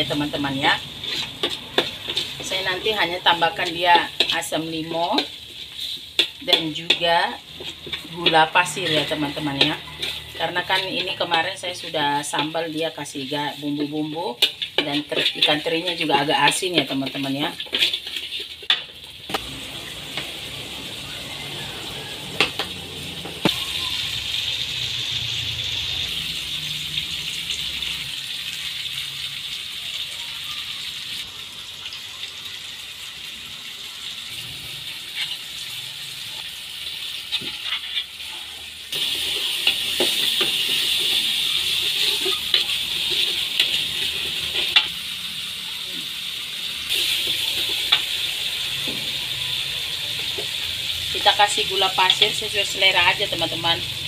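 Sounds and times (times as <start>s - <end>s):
sauce sizzling in a wok: 0.0s - 54.0s.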